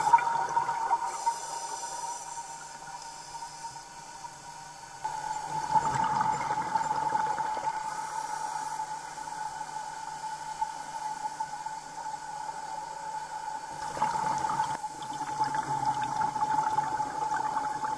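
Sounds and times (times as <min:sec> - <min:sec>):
steady high-pitched hum: 0:00.0 - 0:17.9.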